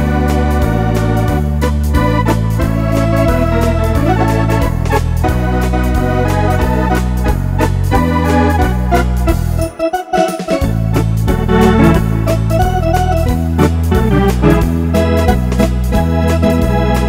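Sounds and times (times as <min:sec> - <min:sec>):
electronic organ playing: 0:00.0 - 0:17.0
organ drum beat: 0:00.0 - 0:17.0.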